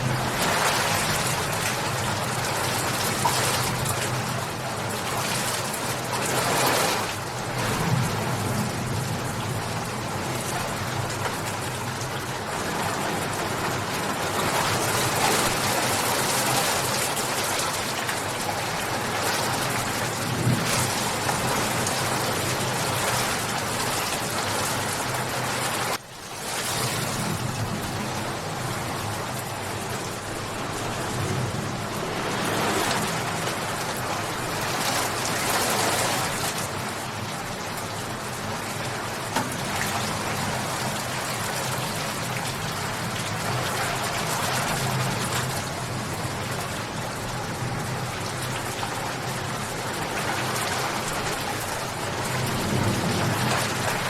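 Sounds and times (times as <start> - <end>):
steady dense rainfall: 0.0 - 54.0.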